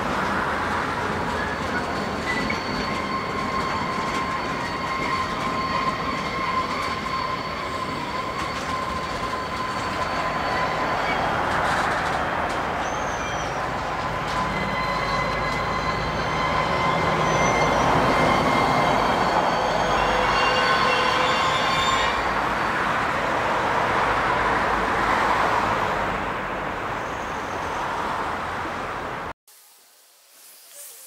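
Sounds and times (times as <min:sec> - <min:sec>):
wheels squealing: 0:00.0 - 0:25.8, 0:26.8 - 0:28.4
train wheels rumbling on rails: 0:00.0 - 0:28.9.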